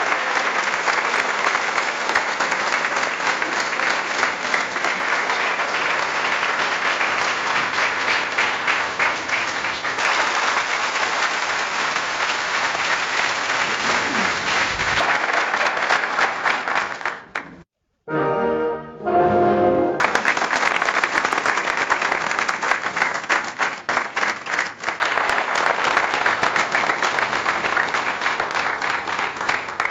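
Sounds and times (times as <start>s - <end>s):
audience applauding: 0.0s - 17.6s, 20.0s - 29.9s.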